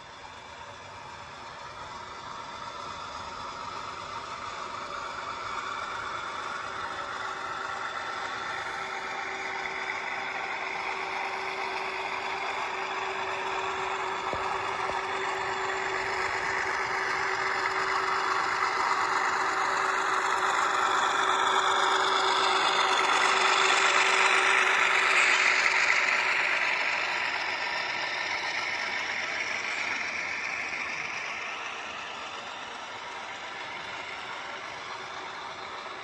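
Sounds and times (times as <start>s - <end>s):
diesel locomotive engine: 0.0s - 36.0s
train running noise: 0.0s - 36.0s.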